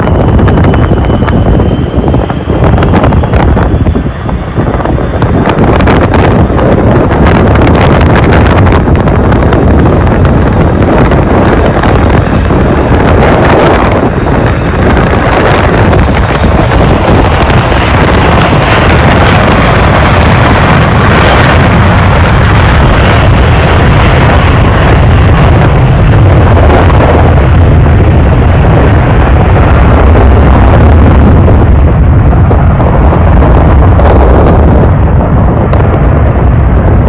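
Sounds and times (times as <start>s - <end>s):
jet engines at takeoff power: 0.0s - 37.0s
wind buffeting microphone: 0.0s - 37.0s.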